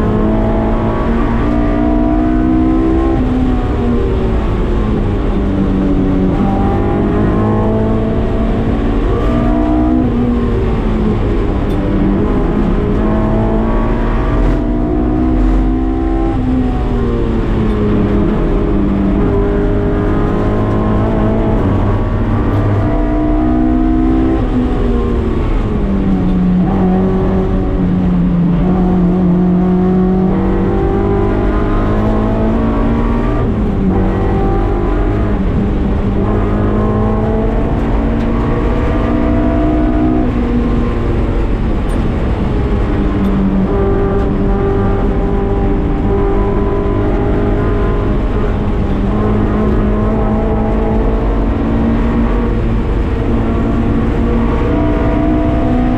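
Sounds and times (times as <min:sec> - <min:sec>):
car engine revving through gears: 0:00.0 - 0:55.9.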